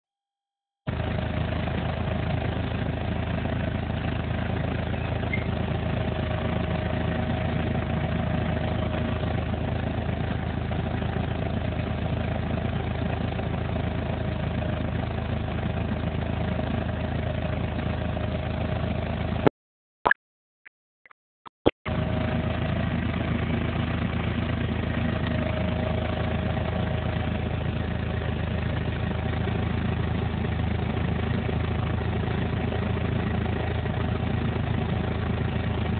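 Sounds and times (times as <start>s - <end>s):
vehicle engine idling: 0.9s - 19.5s, 21.9s - 35.9s.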